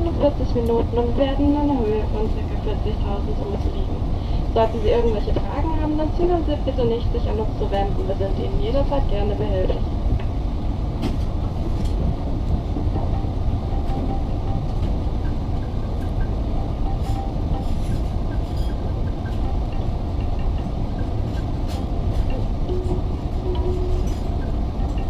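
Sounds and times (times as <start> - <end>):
aircraft cabin rumble and hiss: 0.0 - 25.0.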